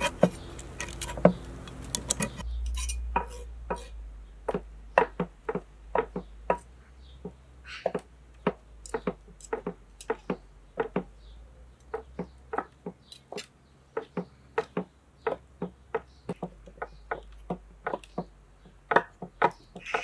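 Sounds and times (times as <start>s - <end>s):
knife chopping on wooden board: 0.0s - 2.4s, 3.1s - 11.1s, 11.9s - 20.0s.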